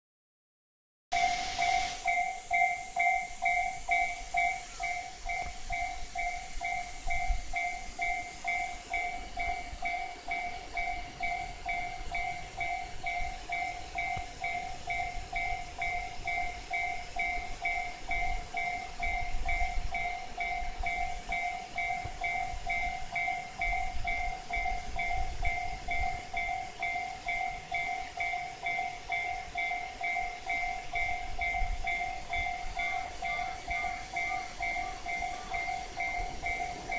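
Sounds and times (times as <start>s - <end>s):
level-crossing warning bell ringing: 1.1s - 36.9s.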